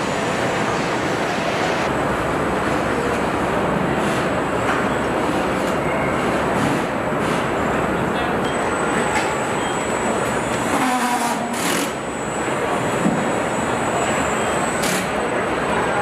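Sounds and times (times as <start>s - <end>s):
machinery rumble and hiss: 0.0s - 16.0s.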